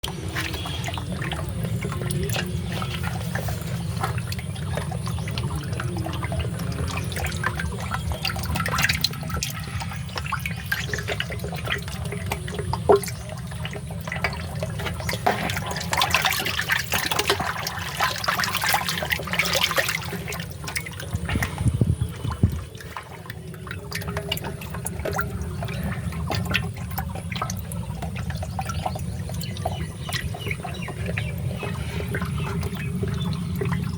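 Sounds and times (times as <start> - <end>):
water splashing in a pond: 0.0 - 33.9.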